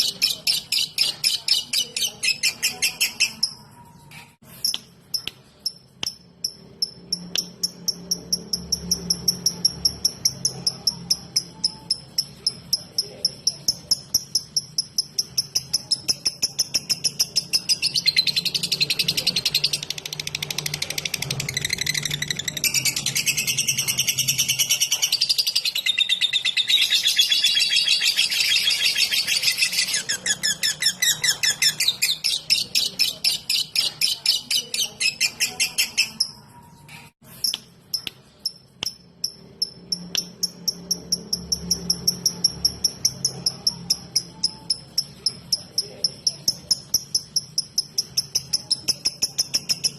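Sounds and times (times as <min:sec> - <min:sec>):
lovebird ticking chirps: 0:04.6 - 0:36.4, 0:37.4 - 0:49.9.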